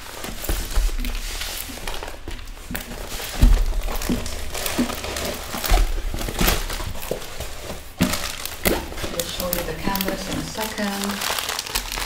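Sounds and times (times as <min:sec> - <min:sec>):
handling noises: 0:00.0 - 0:12.0
plastic film crinkling: 0:00.0 - 0:12.0.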